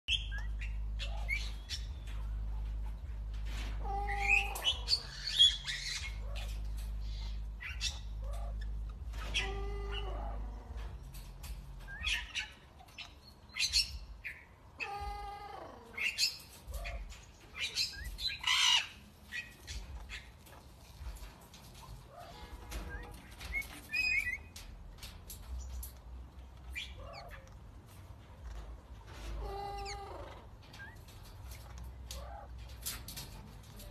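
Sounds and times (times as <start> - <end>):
parrots squawking and chirping: 0.1 - 26.0, 26.6 - 33.9
low steady hum: 0.1 - 33.9.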